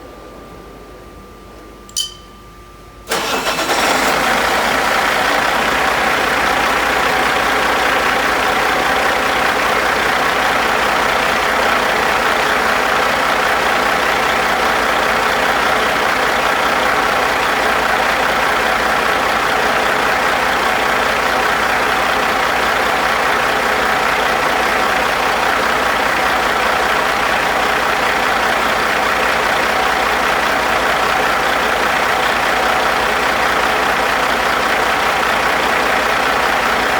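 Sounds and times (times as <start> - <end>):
diesel engine starting and idling: 3.0 - 36.9.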